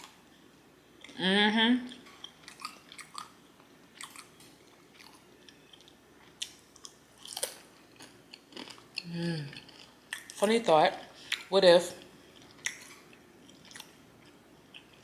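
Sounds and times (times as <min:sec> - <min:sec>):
chewing and lip-smacking: 0:01.9 - 0:15.0.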